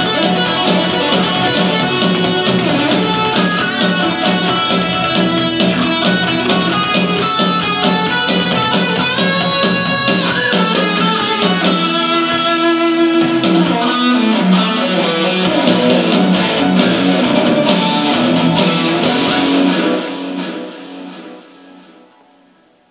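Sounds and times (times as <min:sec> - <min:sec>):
electric guitar rock piece: 0:00.0 - 0:22.6.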